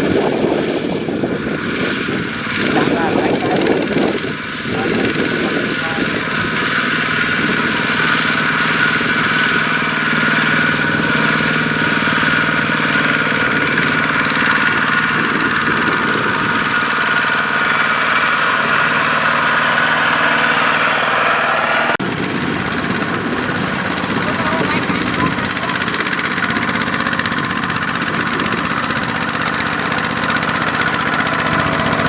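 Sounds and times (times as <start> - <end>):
diesel tractor engine chugging: 0.0 - 32.0.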